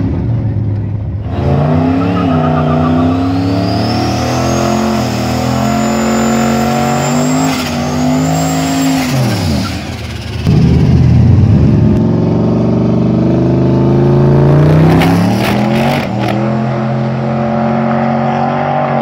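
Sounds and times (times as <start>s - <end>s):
engine revving high: 1.2s - 19.0s.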